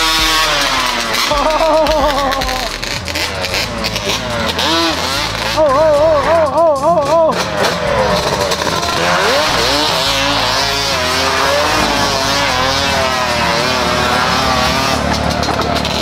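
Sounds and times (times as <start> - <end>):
engine revving: 0.0 - 16.0
tyres sliding on loose dirt: 0.0 - 16.0.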